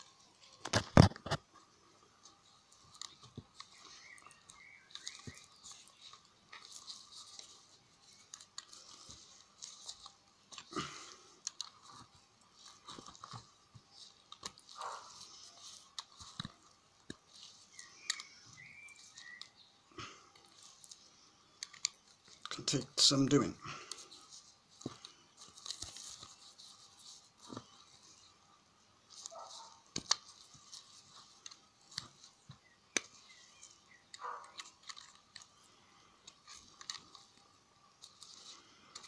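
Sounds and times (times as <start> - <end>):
gloved hands rubbing: 0.0 - 39.0.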